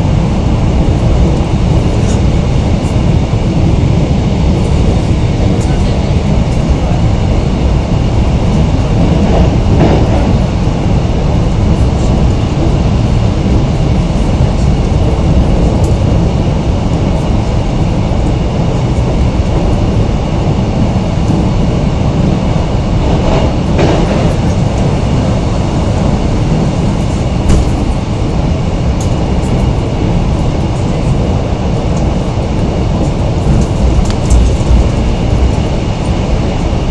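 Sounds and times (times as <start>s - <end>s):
train wheels on rail: 0.0s - 36.9s.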